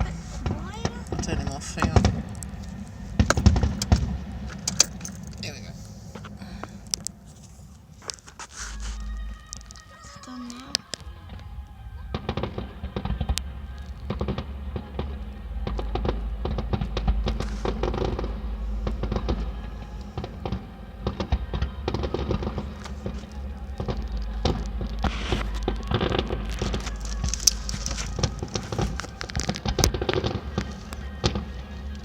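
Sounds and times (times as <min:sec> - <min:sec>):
low booming rumble: 0:00.0 - 0:08.1, 0:08.7 - 0:32.0
fireworks crackling and popping: 0:00.0 - 0:32.0.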